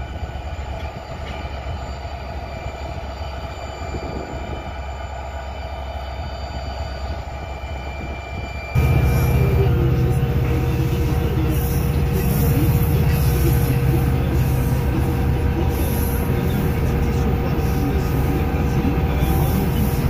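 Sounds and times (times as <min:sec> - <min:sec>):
diesel engine low rumble: 0:00.0 - 0:20.0
high-pitched whine: 0:00.0 - 0:20.0.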